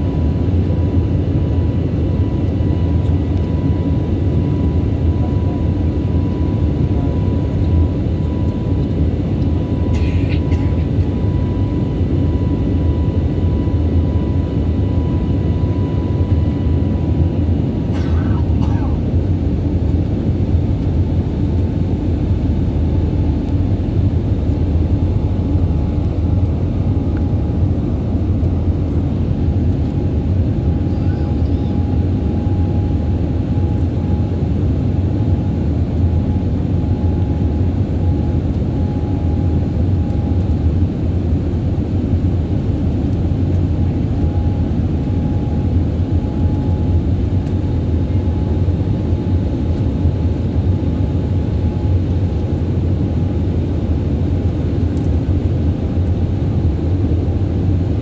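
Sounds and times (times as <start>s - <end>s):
aircraft engines rumbling: 0.0s - 58.0s.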